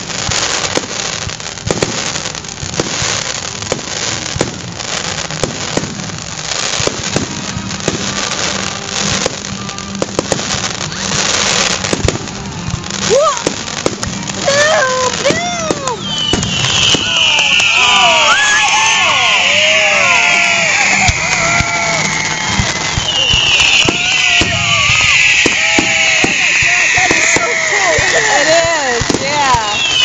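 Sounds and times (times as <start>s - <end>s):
fireworks bangs: 0.0s - 30.0s
fireworks hissing: 0.0s - 30.0s.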